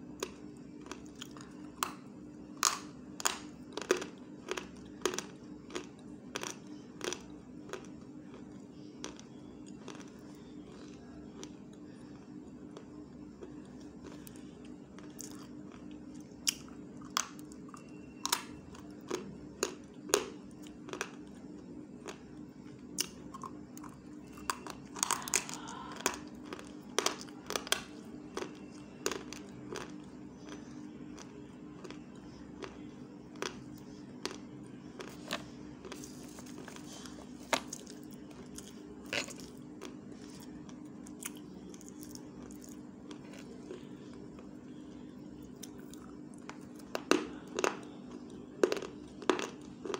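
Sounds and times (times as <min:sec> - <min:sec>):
steady low hum: 0:00.0 - 0:49.9
person chewing crunchy stick: 0:00.2 - 0:44.8, 0:45.4 - 0:49.9.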